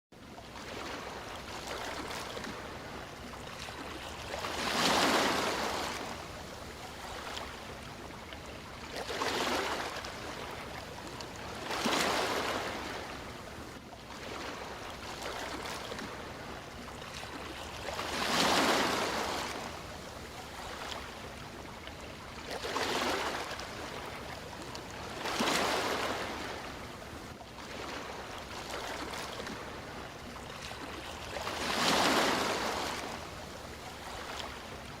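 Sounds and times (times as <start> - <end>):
sea waves breaking on shore: 0.2 - 35.0.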